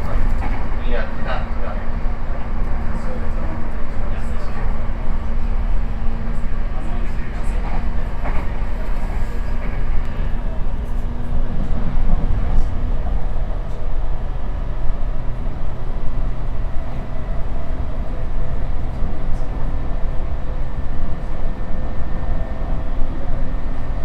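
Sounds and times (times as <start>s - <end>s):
train interior rumble: 0.0s - 24.0s.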